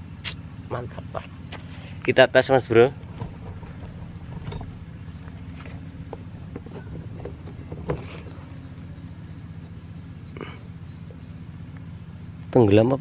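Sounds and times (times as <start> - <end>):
low steady hum: 0.0 - 13.0
night insects chirping: 0.0 - 13.0.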